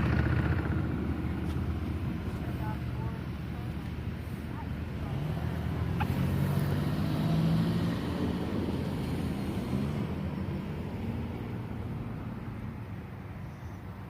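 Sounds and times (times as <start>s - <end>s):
vehicle engine passing by: 0.0s - 13.3s.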